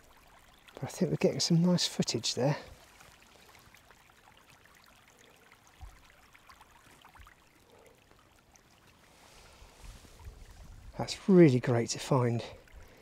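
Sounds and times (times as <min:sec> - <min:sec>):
faint flowing river water: 0:00.0 - 0:13.0.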